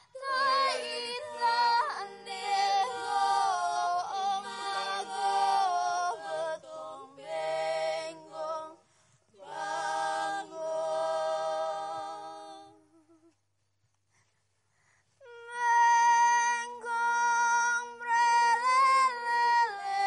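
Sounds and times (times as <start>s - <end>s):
unaccompanied singing: 0.0s - 13.3s, 15.2s - 20.0s.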